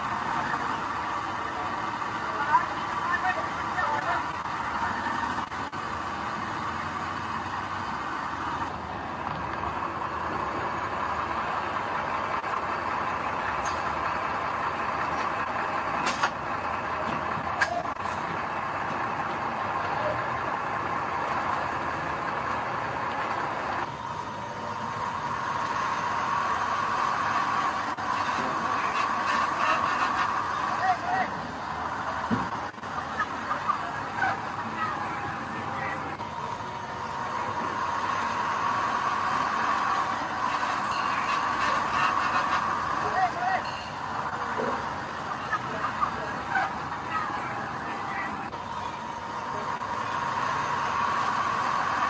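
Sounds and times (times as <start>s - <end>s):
diesel engine of earthmoving machinery: 0.0s - 52.0s.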